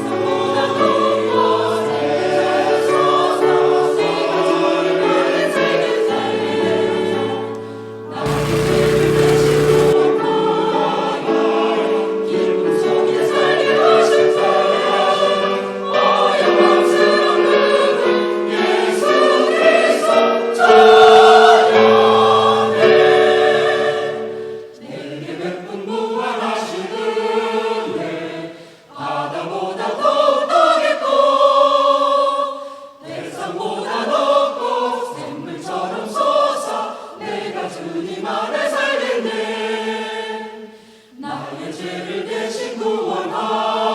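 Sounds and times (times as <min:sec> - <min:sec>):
church choir singing: 0:00.0 - 0:43.9.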